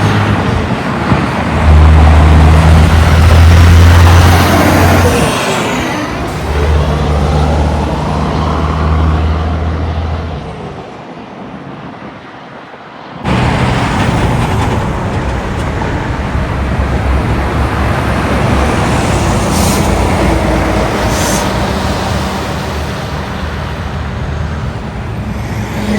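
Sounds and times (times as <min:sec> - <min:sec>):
trucks driving past: 0:00.0 - 0:11.1, 0:13.2 - 0:25.9
traffic noise: 0:00.0 - 0:25.9.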